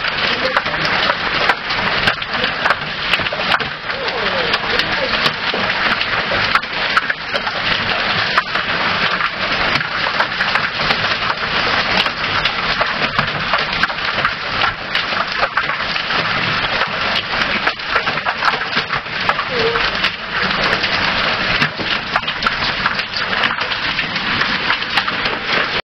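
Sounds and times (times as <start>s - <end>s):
hail clattering: 0.0s - 25.8s
heavy rain hissing: 0.0s - 25.8s.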